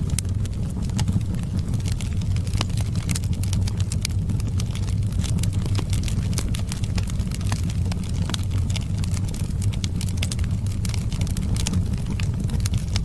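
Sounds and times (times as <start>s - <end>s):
low rumble of flames: 0.0s - 13.0s
wood fire crackling: 0.0s - 13.0s.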